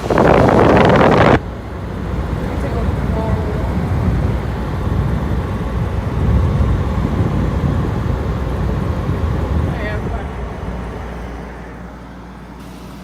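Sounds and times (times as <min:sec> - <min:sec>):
air conditioner fan whoosh: 0:00.0 - 0:13.0.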